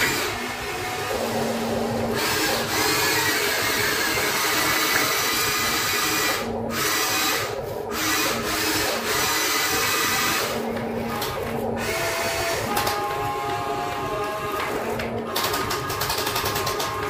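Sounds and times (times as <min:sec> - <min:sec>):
toy excavator motors whirring: 0:00.0 - 0:17.0.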